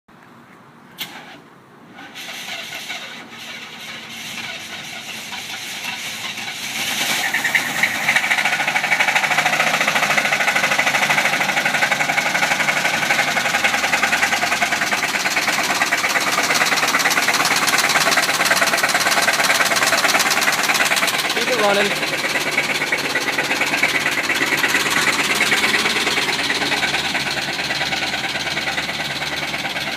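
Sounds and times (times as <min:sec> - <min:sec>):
engine running with rod knock: 0:05.4 - 0:29.9.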